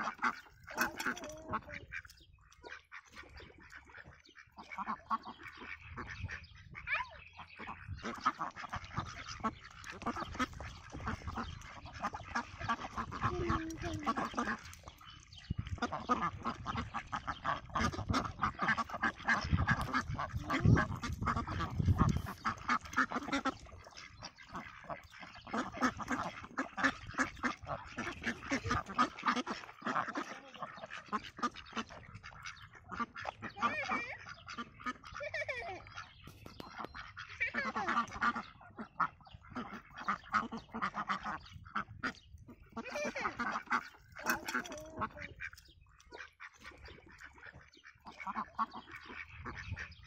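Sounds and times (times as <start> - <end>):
duck bill chomping wetly: 0.0 - 6.1, 7.6 - 35.2, 42.6 - 49.6.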